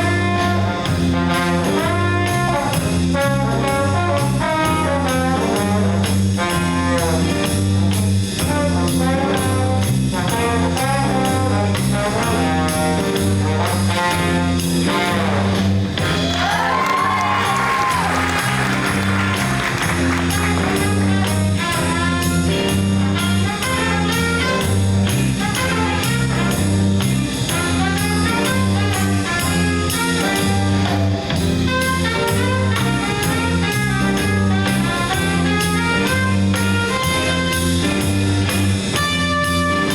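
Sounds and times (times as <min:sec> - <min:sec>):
jazz brass section: 0:00.0 - 0:39.9
repeating bass line: 0:00.0 - 0:39.9.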